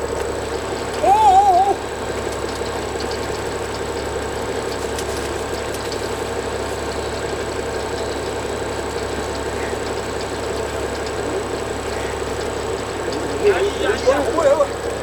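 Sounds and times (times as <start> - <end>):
boat engine idling: 0.0 - 15.0
faint ticks: 2.0 - 15.0.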